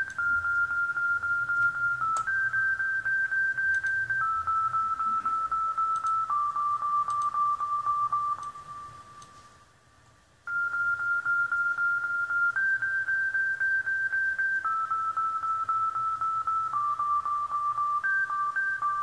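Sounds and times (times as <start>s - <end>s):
pulsing synthesizer beep tone: 0.0s - 9.3s, 10.5s - 19.0s.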